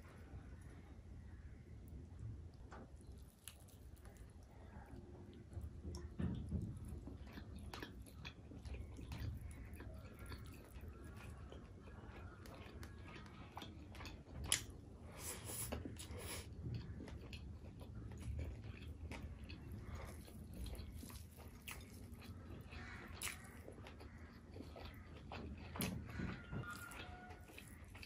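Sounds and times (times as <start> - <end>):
close-miked chewing: 0.0 - 28.0.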